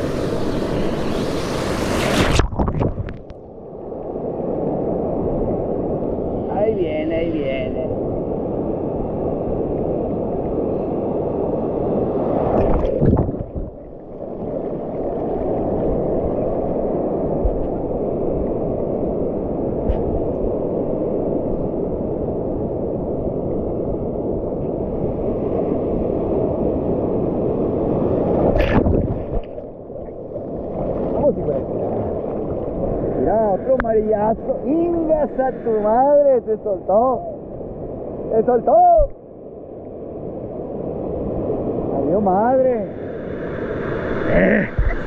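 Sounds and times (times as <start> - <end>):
sea water churning: 0.0 - 23.2, 24.9 - 36.2, 42.1 - 45.0.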